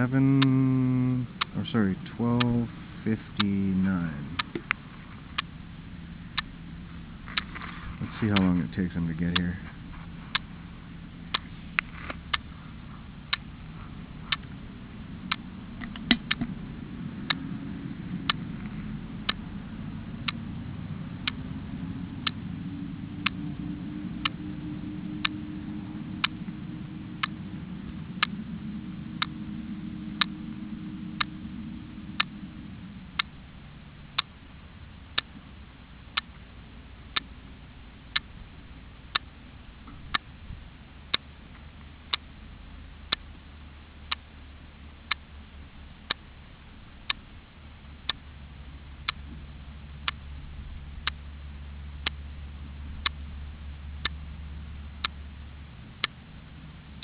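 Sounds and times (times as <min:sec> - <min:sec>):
sharp ticking: 0:00.0 - 0:44.4, 0:47.0 - 0:49.3
low hum: 0:00.0 - 0:57.0.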